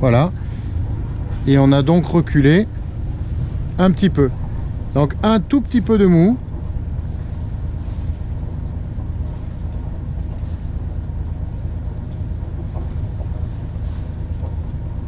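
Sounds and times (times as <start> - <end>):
boat engine low hum: 0.0 - 15.0.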